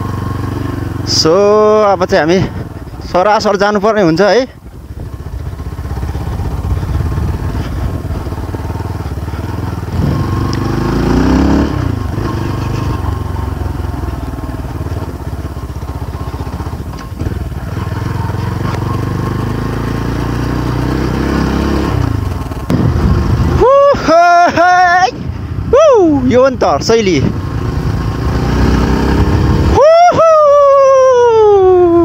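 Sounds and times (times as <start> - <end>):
motorcycle engine revving: 0.0 - 25.7, 26.3 - 32.0.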